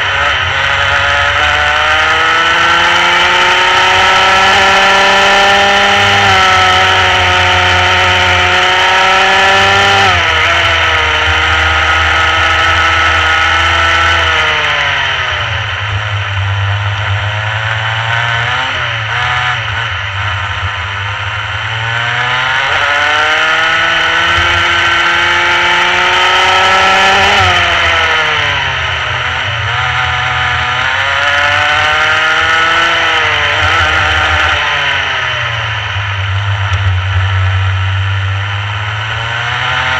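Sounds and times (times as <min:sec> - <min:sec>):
kart engine running at speed: 0:00.0 - 0:39.9.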